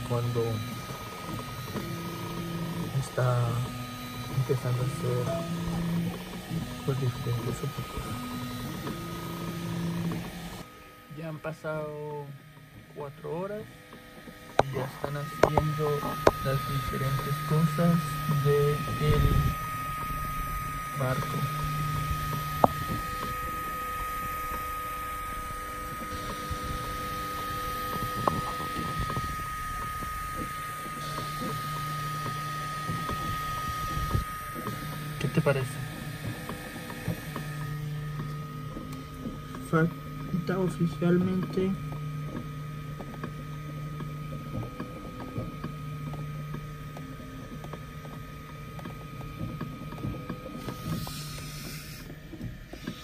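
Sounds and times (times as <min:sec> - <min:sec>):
motor tones: 0:00.0 - 0:53.0
printer high whine: 0:00.0 - 0:53.0.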